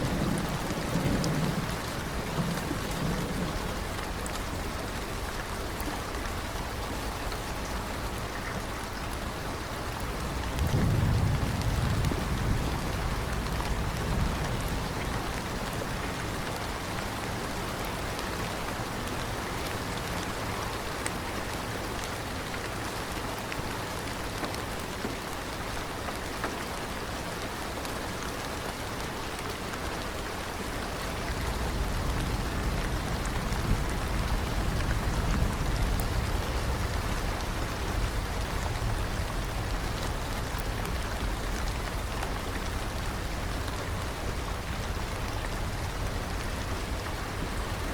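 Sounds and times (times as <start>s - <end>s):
rain falling on a surface: 0.0s - 47.9s.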